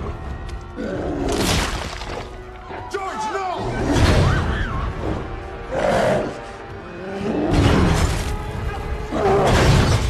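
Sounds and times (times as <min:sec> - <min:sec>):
tense film score: 0:00.0 - 0:10.0.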